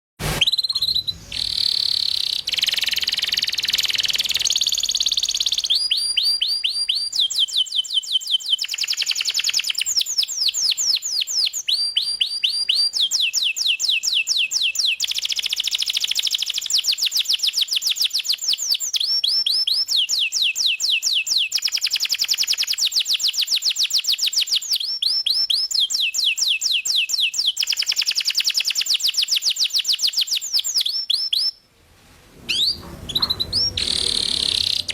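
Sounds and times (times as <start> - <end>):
canary singing: 0.4 - 31.6, 32.5 - 34.9.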